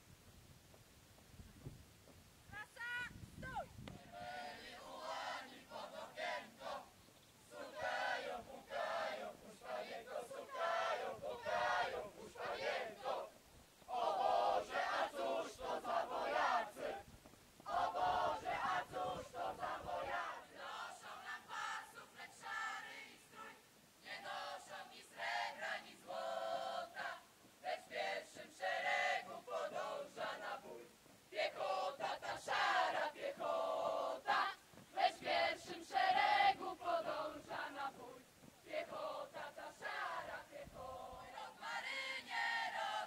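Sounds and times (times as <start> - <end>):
group singing marching song: 3.9 - 43.0.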